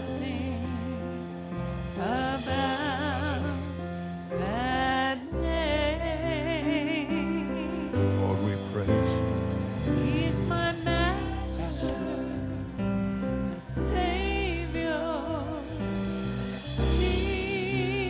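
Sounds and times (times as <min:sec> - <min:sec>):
bass: 0:00.0 - 0:18.0
person singing long notes: 0:00.0 - 0:18.0.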